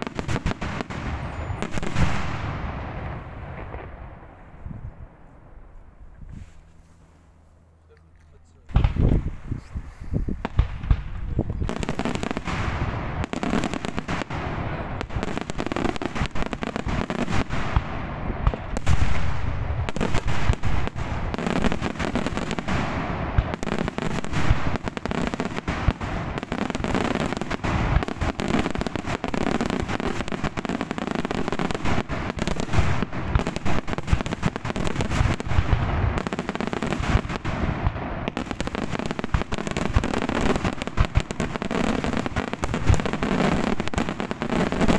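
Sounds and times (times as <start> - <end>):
fireworks bangs and crackling: 0.0 - 6.6, 8.6 - 44.9.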